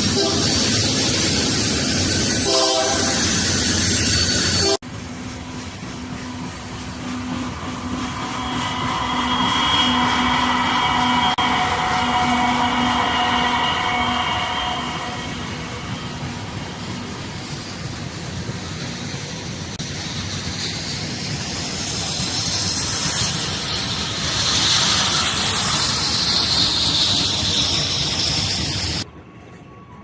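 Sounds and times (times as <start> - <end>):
railcars rumbling and hissing: 0.0 - 30.0.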